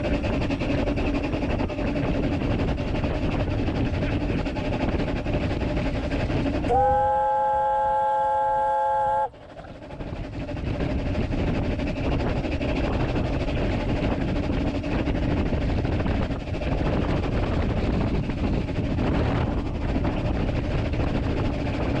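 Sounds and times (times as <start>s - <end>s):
steam locomotive rumble and clatter: 0.0s - 22.0s.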